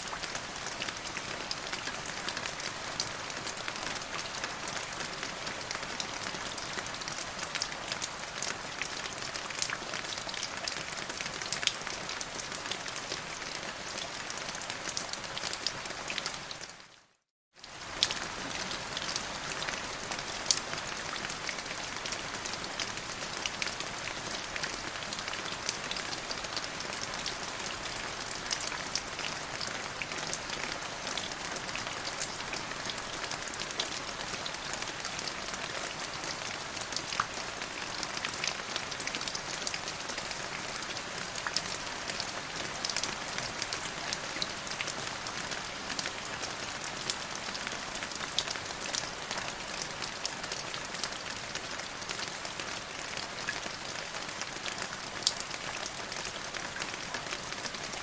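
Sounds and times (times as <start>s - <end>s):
rain falling: 0.0s - 17.0s, 17.6s - 58.0s.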